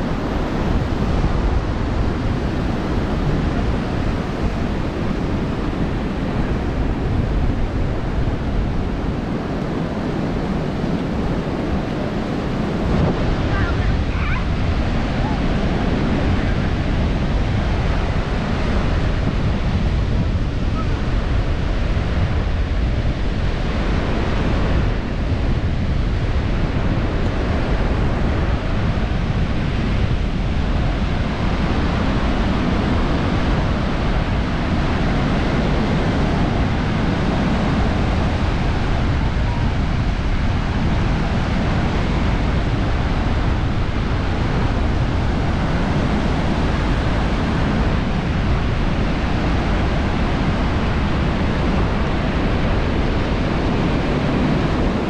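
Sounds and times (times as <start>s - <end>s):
surf washing onto beach: 0.0s - 55.0s
wind buffeting microphone: 0.0s - 55.0s.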